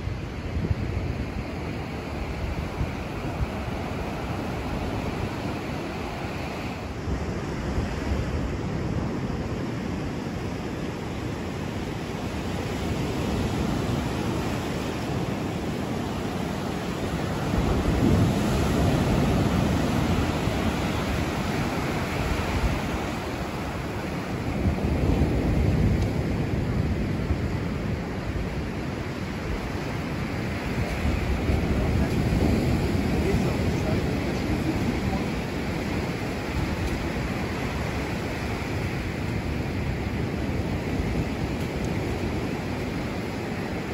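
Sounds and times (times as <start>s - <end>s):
surf washing onto beach: 0.0s - 43.9s
wind rushing over microphone: 0.0s - 43.9s.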